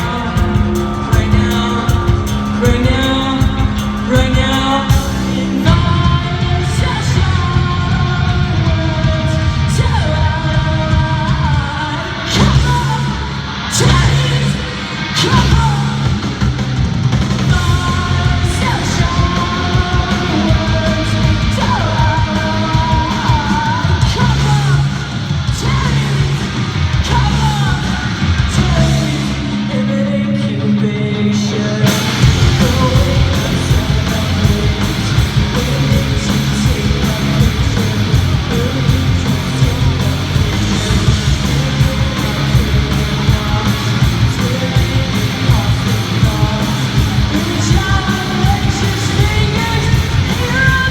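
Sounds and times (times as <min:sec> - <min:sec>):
punk rock band playing: 0:00.0 - 0:50.9.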